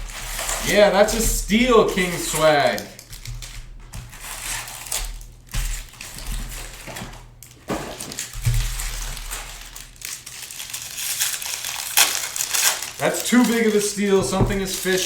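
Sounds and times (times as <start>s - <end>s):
wrappers crinkling: 0.0s - 15.0s.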